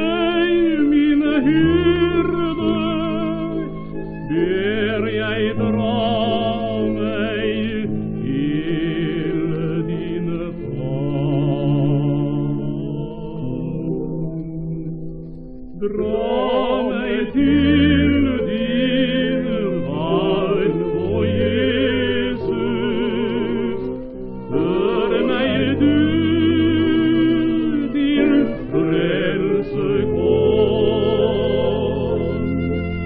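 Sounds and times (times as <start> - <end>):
hymn duet sung with vibrato: 0.0 - 14.0, 15.8 - 32.6
instrumental trio sustained notes: 0.0 - 33.0.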